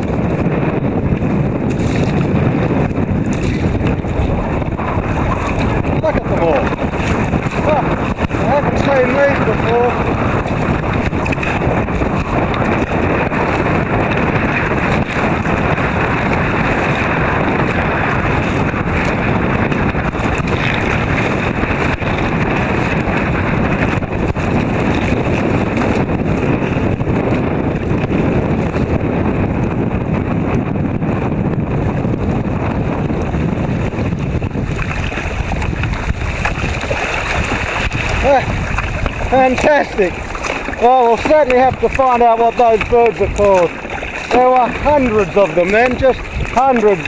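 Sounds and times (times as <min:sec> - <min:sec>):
wind blowing across microphone: 0:00.0 - 0:47.0.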